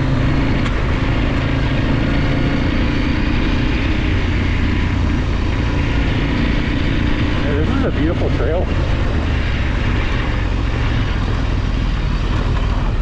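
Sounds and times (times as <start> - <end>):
motorcycle engine running: 0.0 - 13.0
wind and riding noise: 0.0 - 13.0.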